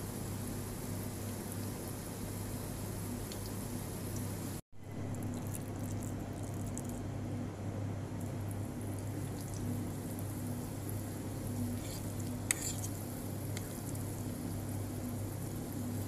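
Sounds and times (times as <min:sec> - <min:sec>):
batter sizzling in oil: 0:00.0 - 0:07.1, 0:08.0 - 0:16.0
steady low hum: 0:00.0 - 0:16.0.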